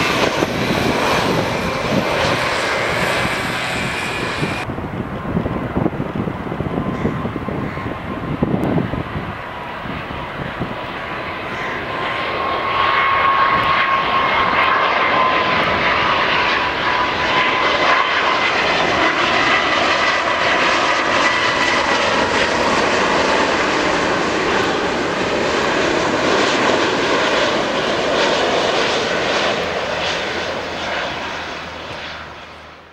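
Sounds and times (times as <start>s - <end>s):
jet engines passing with fan whine: 0.0s - 32.9s.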